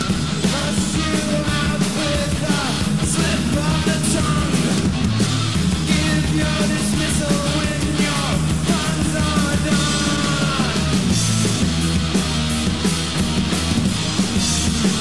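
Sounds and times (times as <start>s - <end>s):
fast hard rock band: 0.0s - 15.0s.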